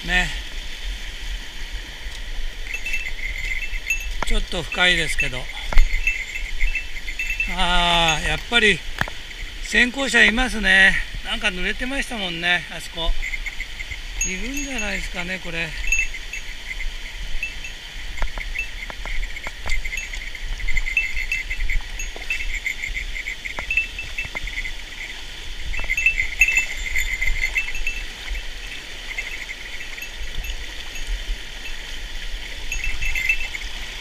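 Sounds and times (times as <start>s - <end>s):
mountain stream rushing: 0.0s - 34.0s
high pulsed trilling calls: 2.6s - 33.9s.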